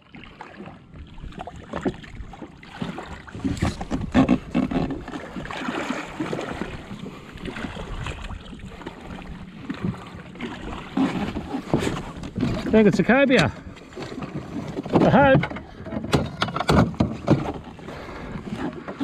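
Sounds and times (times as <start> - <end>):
water lapping against hull: 0.0 - 19.0.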